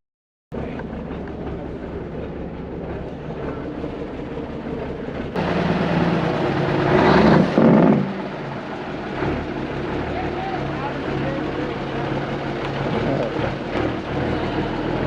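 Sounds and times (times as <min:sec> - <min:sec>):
diesel engine running: 0:00.5 - 0:15.0
rush of noise: 0:00.6 - 0:15.0.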